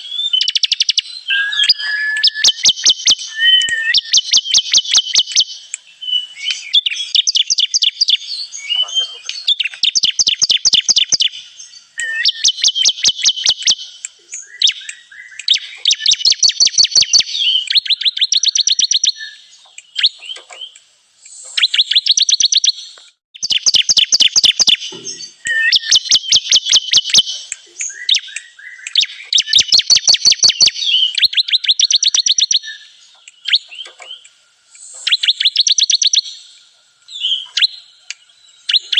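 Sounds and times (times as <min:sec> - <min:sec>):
bird song with rapid chipping notes: 0:00.0 - 0:38.9.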